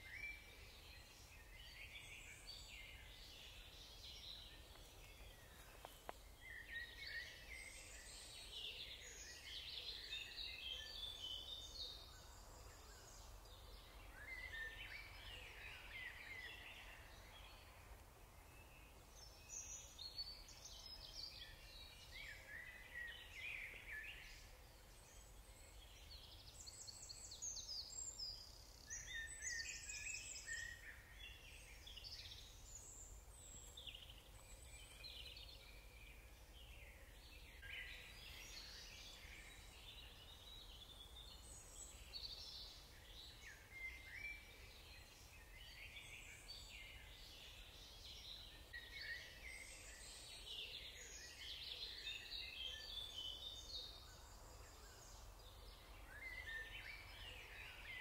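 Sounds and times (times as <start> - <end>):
faint songbirds chirping: 0.0 - 58.0.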